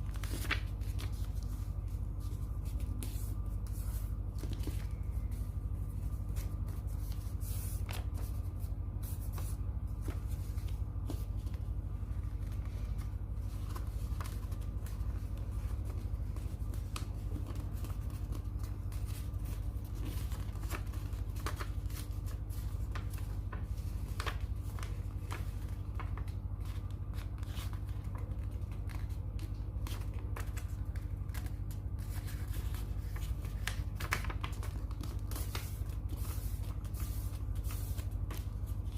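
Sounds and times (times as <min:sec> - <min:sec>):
paper rustling and crackling: 0:00.0 - 0:38.9
steady low hum: 0:00.0 - 0:38.9.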